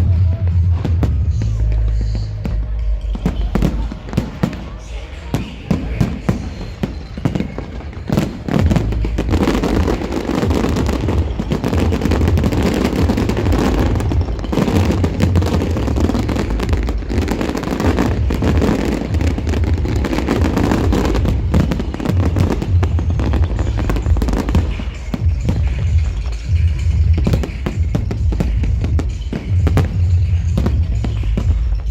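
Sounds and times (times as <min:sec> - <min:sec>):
bass-heavy music: 0:00.0 - 0:31.9
fireworks bangs and crackles: 0:00.0 - 0:31.9.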